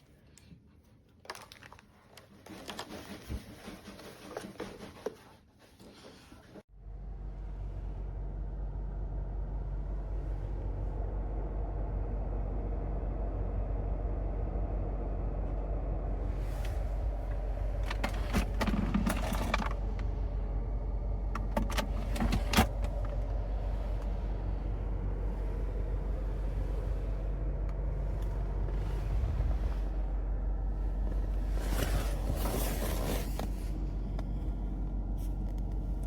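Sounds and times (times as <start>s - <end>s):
car cabin road rumble: 6.8s - 36.0s.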